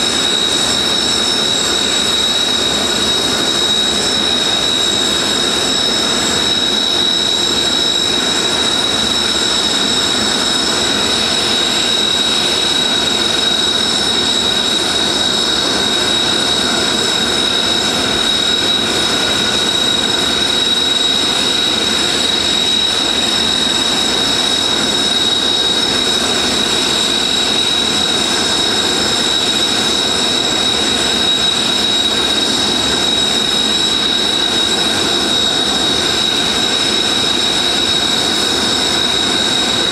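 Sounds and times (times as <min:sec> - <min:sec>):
high-pitched whine: 0:00.0 - 0:39.9
jet engines running: 0:00.0 - 0:39.9.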